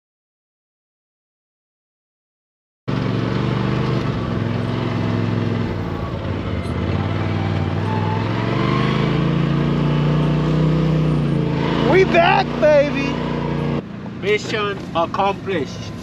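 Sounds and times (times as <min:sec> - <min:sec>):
vehicle engine running: 0:02.9 - 0:16.0.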